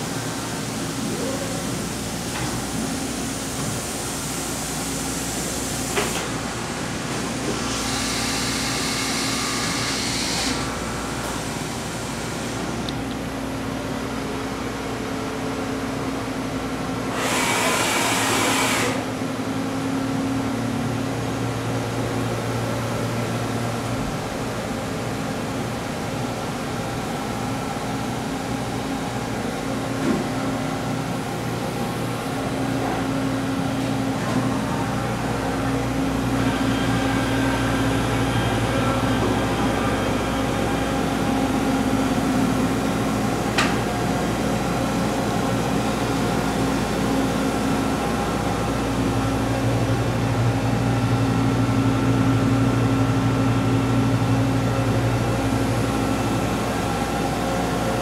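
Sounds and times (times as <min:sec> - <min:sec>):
machine-shop equipment humming: 0:00.0 - 0:58.0.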